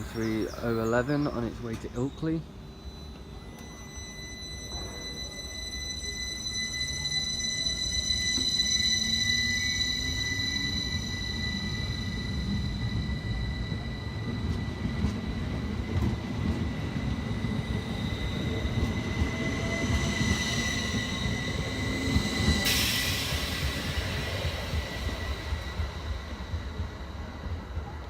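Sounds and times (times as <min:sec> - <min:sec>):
electric whine: 0:00.0 - 0:27.5
train wheels rumbling: 0:00.0 - 0:28.0.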